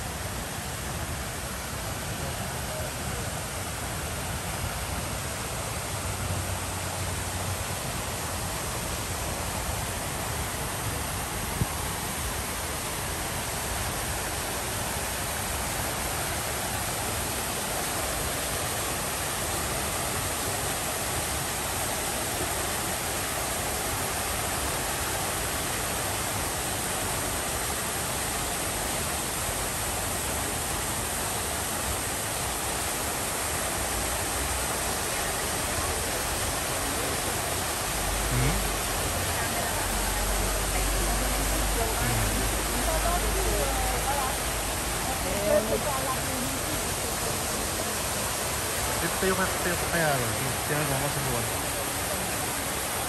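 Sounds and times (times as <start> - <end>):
fountain water splashing: 0.0 - 53.0.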